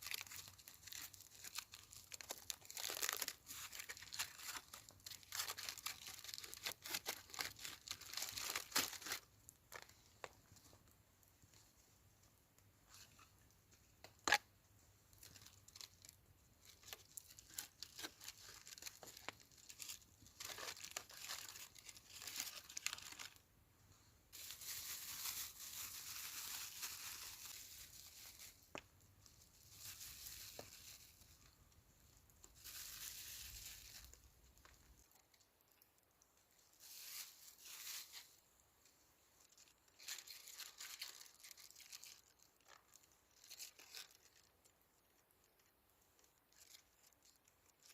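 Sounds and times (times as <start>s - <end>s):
rustling and crinkling handling: 0.0s - 47.9s.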